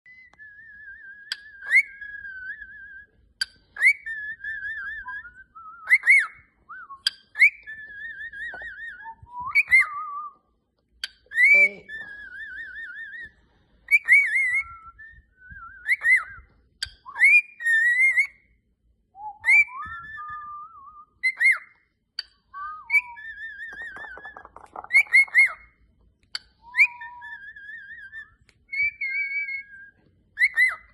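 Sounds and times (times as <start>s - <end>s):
cockatiel whistling: 0.1s - 18.6s, 19.2s - 30.9s.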